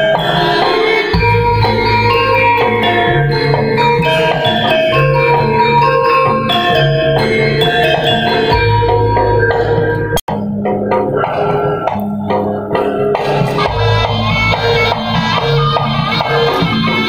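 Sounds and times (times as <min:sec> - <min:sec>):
deep held low tones: 0:00.0 - 0:16.8
gamelan melody: 0:00.0 - 0:17.0.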